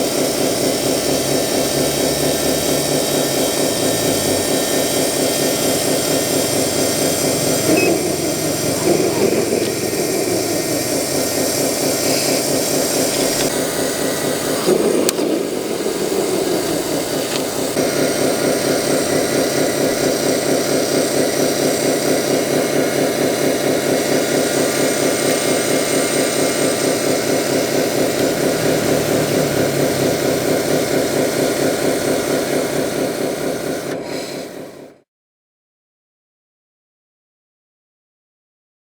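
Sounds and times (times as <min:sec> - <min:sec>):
pulsing toy engine drone: 0:00.0 - 0:35.0.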